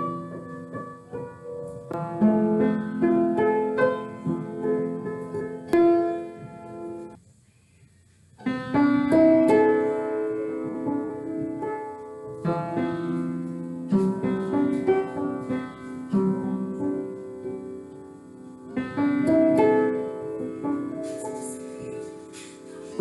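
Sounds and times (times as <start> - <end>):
upright piano melody: 0.0 - 7.2, 8.4 - 23.0.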